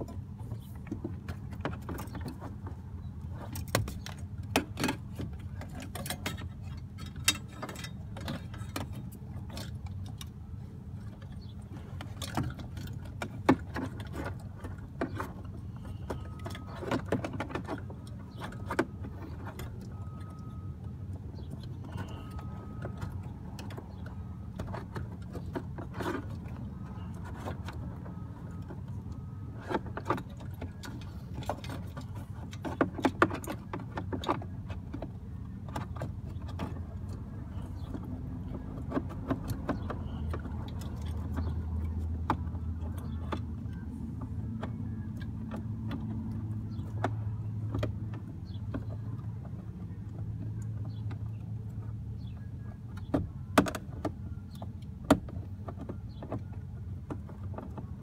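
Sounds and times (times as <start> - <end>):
clicks taps and rustles of wires: 0.0 - 58.0.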